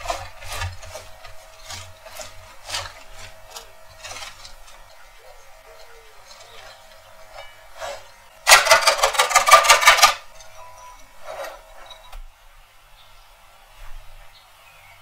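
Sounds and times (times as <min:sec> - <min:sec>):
cheese grated on metal grater: 0:00.0 - 0:12.2.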